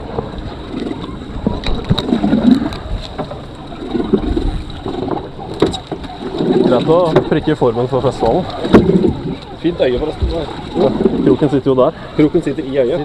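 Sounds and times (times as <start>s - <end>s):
water sloshing around boat: 0.0s - 13.0s
wind buffeting microphone: 0.0s - 13.0s
knocks and clicks handling fish: 0.1s - 11.4s.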